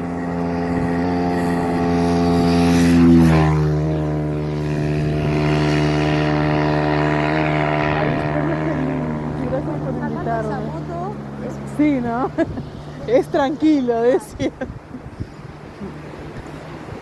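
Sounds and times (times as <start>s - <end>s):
motorcycle riding past: 0.0s - 17.0s.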